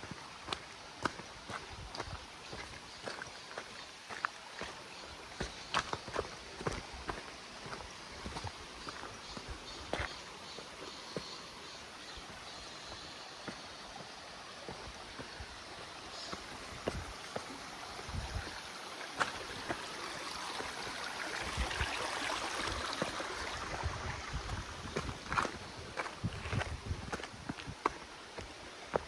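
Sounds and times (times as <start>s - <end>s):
footsteps on trail: 0.0s - 29.0s
stream running over rocks: 0.0s - 29.0s.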